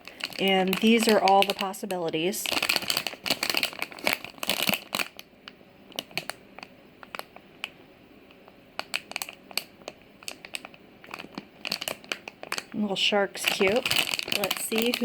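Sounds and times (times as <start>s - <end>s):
packaging crinkling and clicking: 0.0s - 12.8s, 13.4s - 15.0s.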